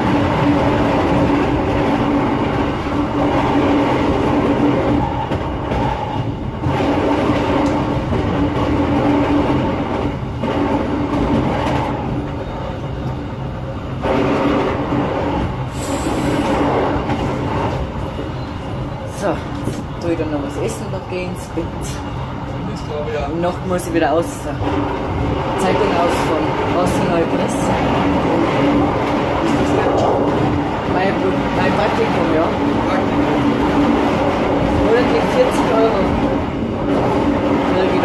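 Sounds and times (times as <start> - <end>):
train rolling noise: 0.0 - 38.0.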